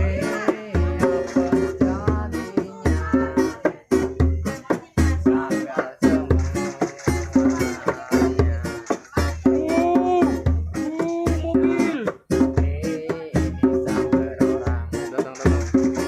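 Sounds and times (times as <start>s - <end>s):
sharp percussive hits: 0.0s - 12.6s, 13.8s - 16.0s
plucked string music over a beat: 0.0s - 16.0s.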